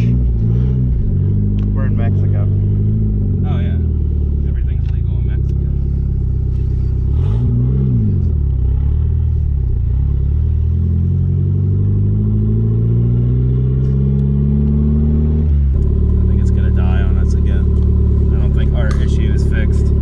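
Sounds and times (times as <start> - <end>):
car engine revving and accelerating: 0.0 - 20.0.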